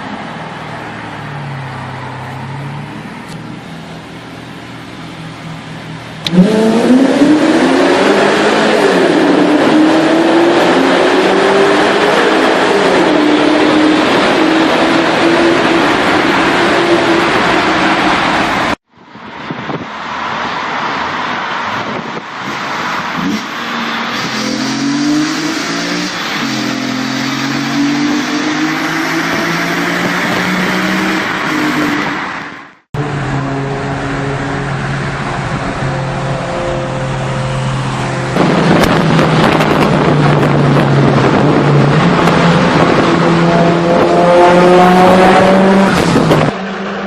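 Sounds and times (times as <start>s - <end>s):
car engine accelerating in tunnel: 0.0s - 18.8s, 19.4s - 47.0s.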